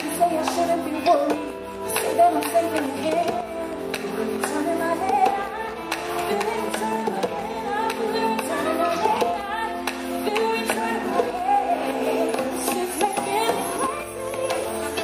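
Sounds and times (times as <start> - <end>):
band accompaniment: 0.0 - 15.0
woman singing wordless runs: 0.0 - 15.0.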